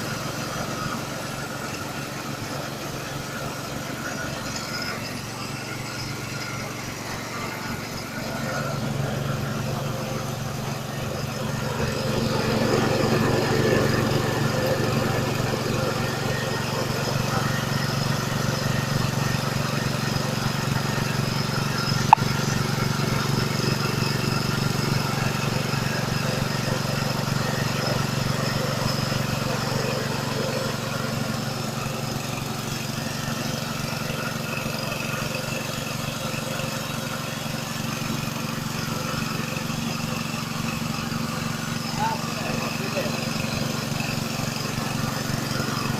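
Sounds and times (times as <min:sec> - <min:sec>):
machine grinding rice husks: 0:00.0 - 0:45.9.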